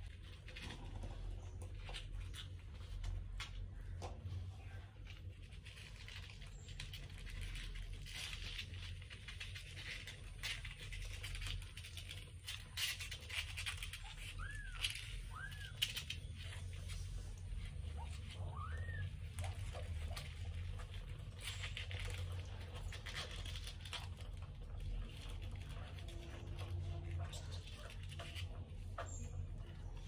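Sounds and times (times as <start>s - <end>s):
cat licking kittens: 0.0s - 30.0s.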